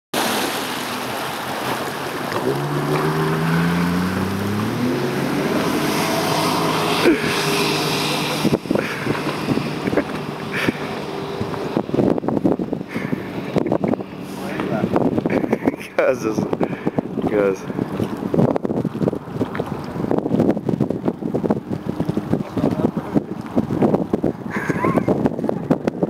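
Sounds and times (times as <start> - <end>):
water rushing: 0.1 - 24.2
watercraft engine running: 0.2 - 26.0
wind on microphone: 1.8 - 26.0.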